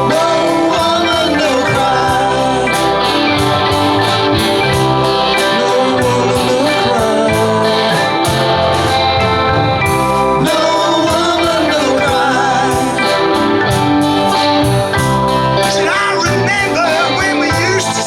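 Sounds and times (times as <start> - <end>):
person singing: 0.0 - 9.6, 10.3 - 14.6, 15.6 - 18.0
live rock band playing: 0.0 - 18.0.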